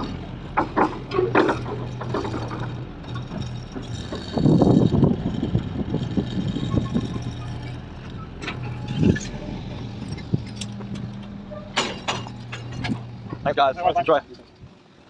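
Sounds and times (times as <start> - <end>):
metal knocks and clanks: 0.0 - 14.7
ferry engine humming: 0.0 - 15.0.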